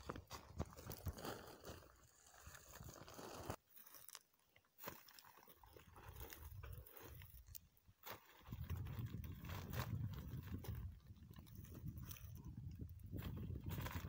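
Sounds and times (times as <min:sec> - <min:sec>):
dry plant stalks crunching: 0:00.0 - 0:14.0.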